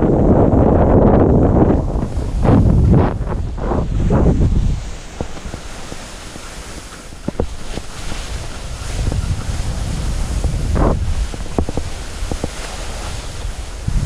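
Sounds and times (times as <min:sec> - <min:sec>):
wind rushing over microphone: 0:00.0 - 0:14.0
skis sliding on snow: 0:01.6 - 0:14.0.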